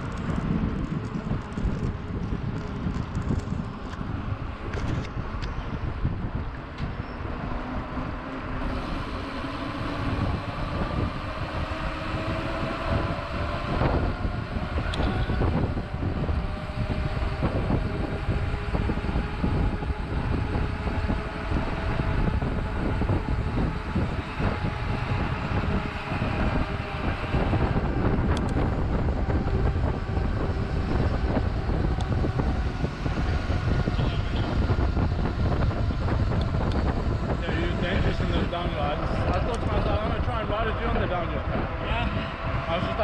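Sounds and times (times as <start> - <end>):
bike tyres and rattling: 0.0 - 43.0
faint rising whine: 3.6 - 43.0.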